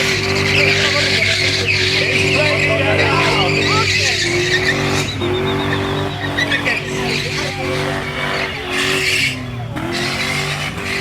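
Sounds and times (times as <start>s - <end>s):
car engine at high revs: 0.0s - 11.0s
tyres squealing: 0.0s - 11.0s.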